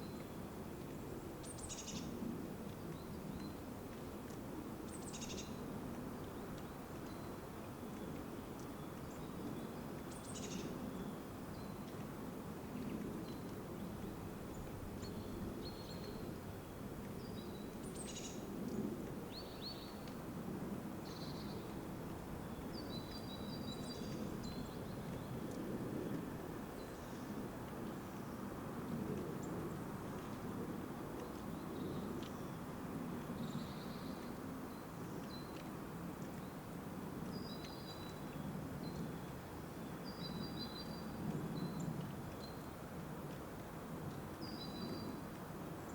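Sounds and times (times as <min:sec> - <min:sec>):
low outdoor background noise: 0:00.0 - 0:45.9.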